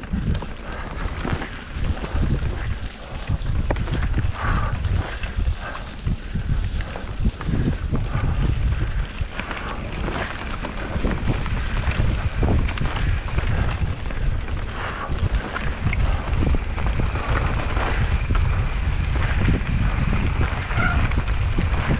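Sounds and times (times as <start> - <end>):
bike knocks and rattles: 0.0 - 21.9
bike tyre noise: 0.0 - 21.9
wind buffeting microphone: 0.0 - 21.9.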